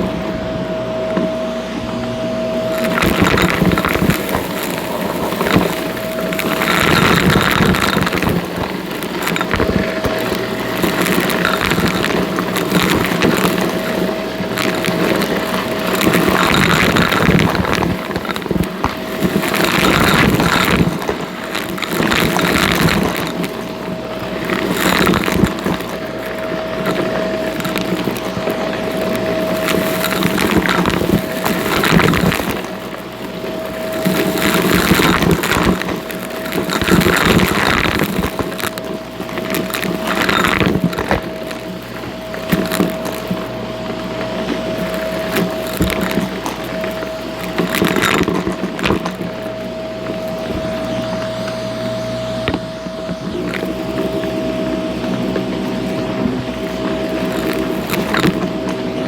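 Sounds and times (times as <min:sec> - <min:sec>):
debris crackling in vacuum: 0:00.0 - 0:59.0
vacuum cleaner motor whine: 0:00.0 - 0:59.0.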